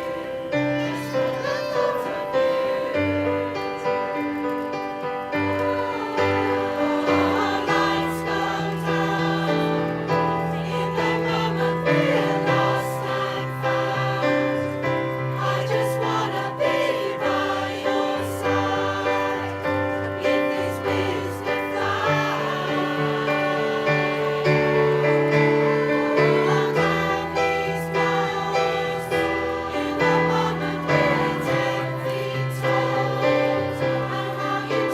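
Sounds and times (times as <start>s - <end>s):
choir singing in parts: 0.0s - 34.9s.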